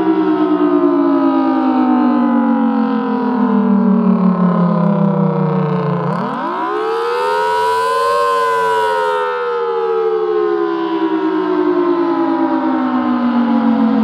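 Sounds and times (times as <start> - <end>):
storm siren wailing: 0.0 - 14.0.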